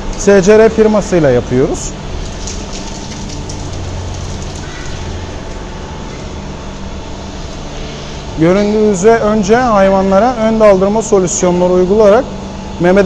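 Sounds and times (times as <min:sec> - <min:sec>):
milking machinery humming and hissing: 0:00.0 - 0:13.0.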